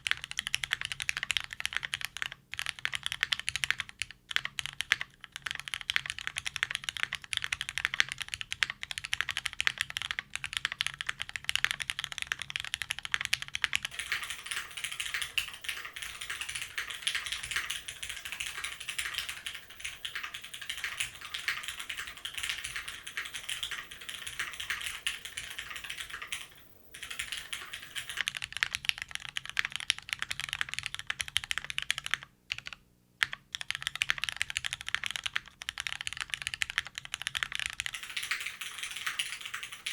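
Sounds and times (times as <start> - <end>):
mechanical keyboard clacking: 0.0 - 39.9.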